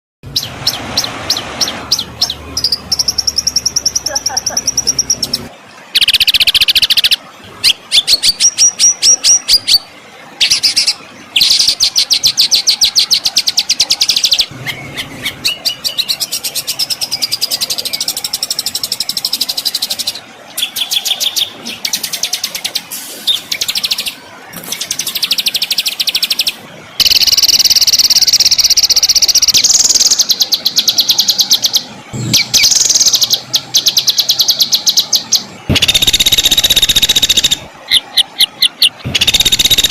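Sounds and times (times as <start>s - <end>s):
songbird trilling song: 0.3s - 39.9s.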